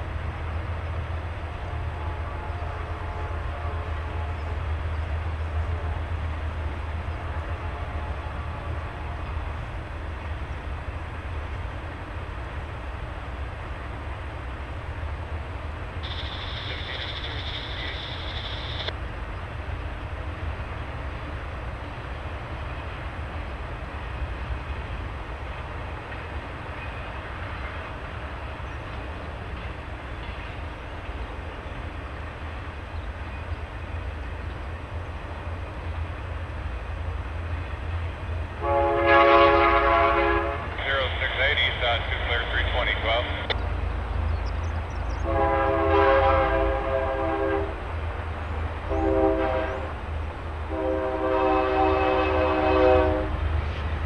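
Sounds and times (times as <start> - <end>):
distant freight train rumbling: 0.0 - 54.0.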